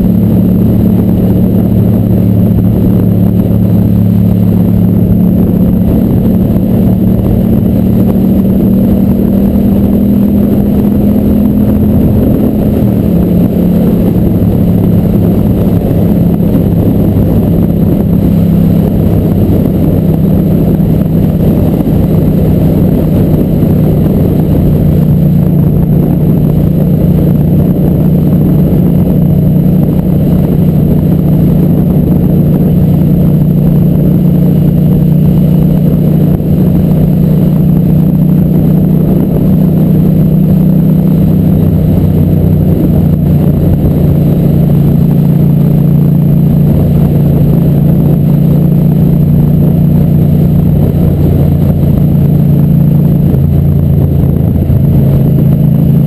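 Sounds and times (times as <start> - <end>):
racing motorcycle engine: 0.0 - 56.0.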